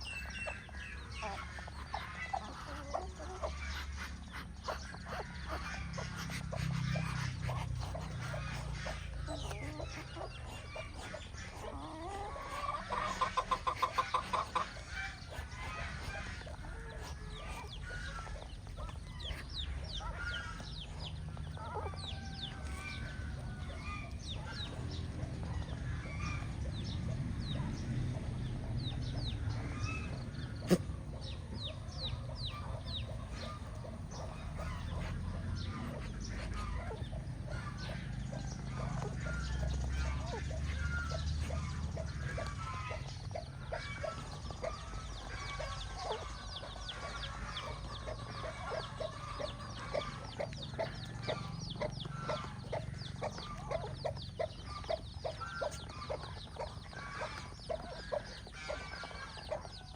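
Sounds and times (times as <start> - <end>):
chicks peeping: 0.0 - 59.9
hen clucking: 0.0 - 59.9.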